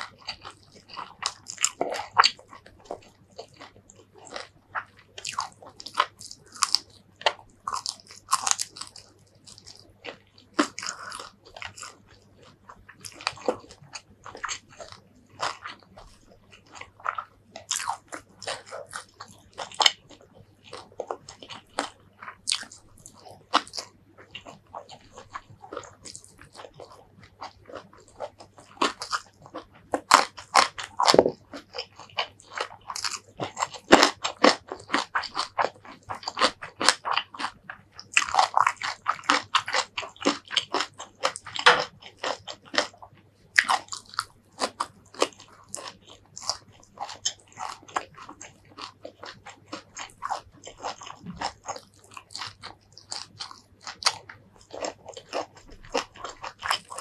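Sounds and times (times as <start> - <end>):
crunching and chewing food: 0.0 - 57.0.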